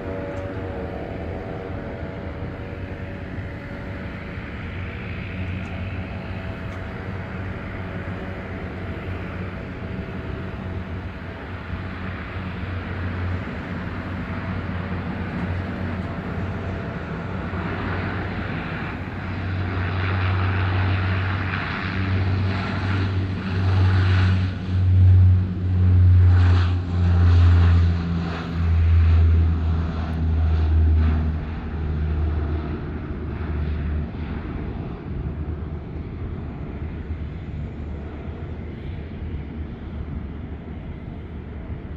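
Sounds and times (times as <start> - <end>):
turboprop engines droning: 0.0 - 41.9.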